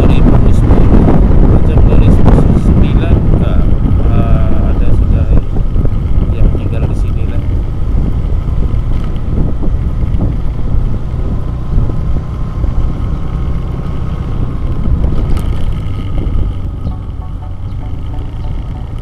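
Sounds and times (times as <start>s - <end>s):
vehicle engine running: 0.0s - 19.0s
wind buffeting on microphone: 0.0s - 19.0s.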